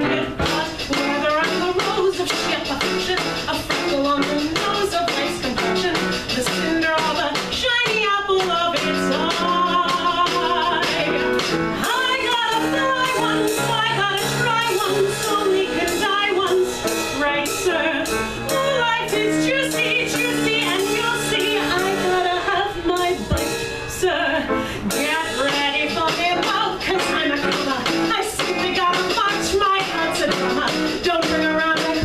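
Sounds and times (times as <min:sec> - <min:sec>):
drums and cymbals: 0:00.0 - 0:24.1, 0:24.9 - 0:32.0
live band playing: 0:00.0 - 0:32.0
woman singing: 0:00.0 - 0:32.0.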